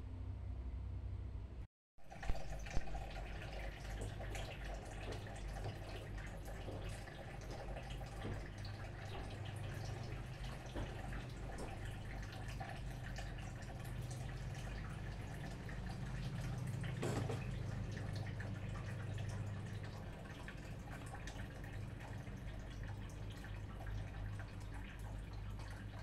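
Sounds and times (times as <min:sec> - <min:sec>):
gas stove low hum: 0:00.0 - 0:22.2.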